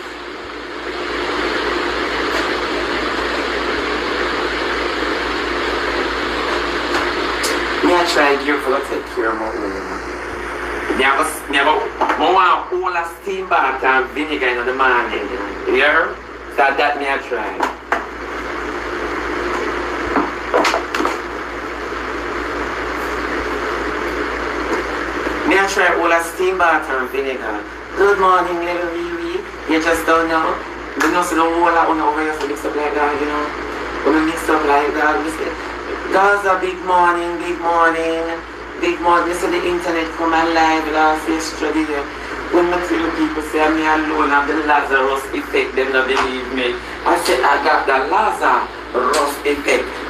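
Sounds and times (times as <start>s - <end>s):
faint constant hum: 0.0s - 50.0s.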